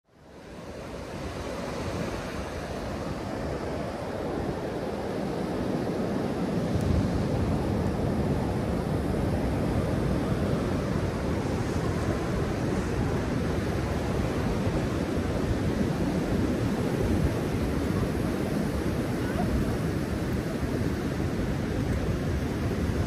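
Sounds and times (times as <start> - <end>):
ocean surf washing up beach: 0.1 - 23.0
wind noise on microphone: 0.2 - 23.0.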